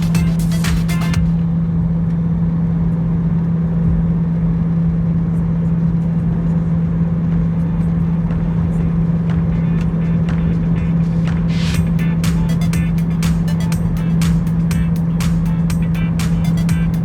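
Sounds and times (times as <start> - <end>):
jet engine drone in cabin: 0.0 - 17.0
low hum and rumble: 0.0 - 17.0.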